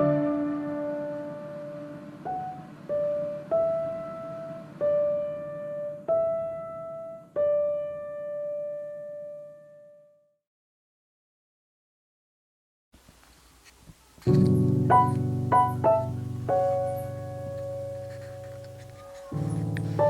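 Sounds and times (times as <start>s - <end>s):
slow piano melody: 0.0s - 10.4s, 14.2s - 20.0s.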